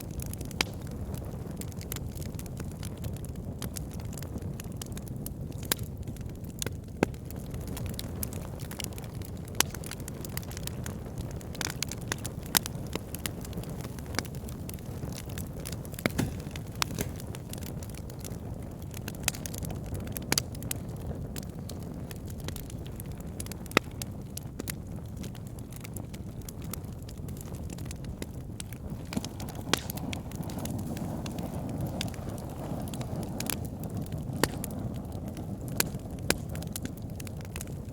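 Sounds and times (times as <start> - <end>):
fire crackling and popping: 0.0 - 37.9
flames rumbling: 0.0 - 37.9.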